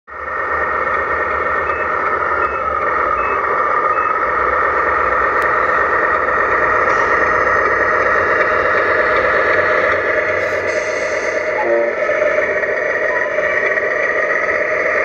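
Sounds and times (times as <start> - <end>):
simulated truck engine from small speaker: 0.1 - 15.0.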